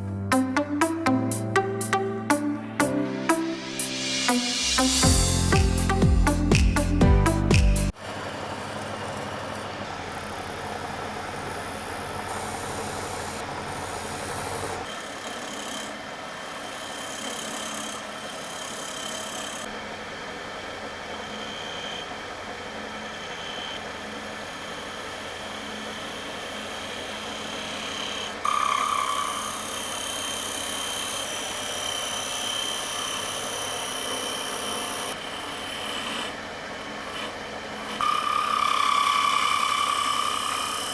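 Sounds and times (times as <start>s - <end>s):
woodworking power tool running: 8.0s - 40.9s.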